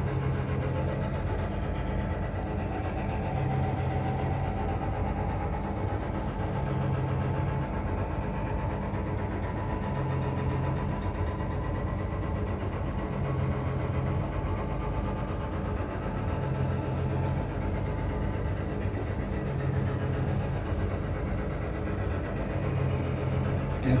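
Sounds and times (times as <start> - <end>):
deep hum: 0.0 - 24.0
engines and pump machinery running: 0.0 - 24.0.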